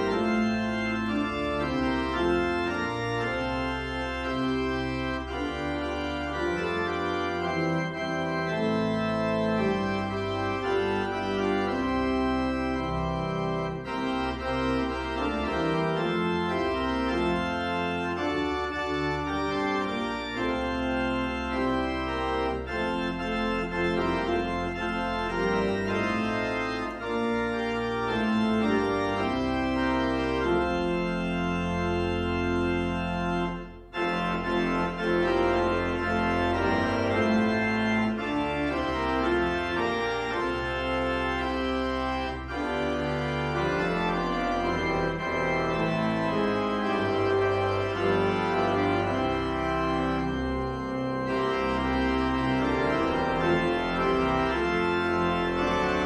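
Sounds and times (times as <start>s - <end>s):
deep organ pedal bass notes: 0.0s - 56.0s
organ chords: 0.0s - 56.0s.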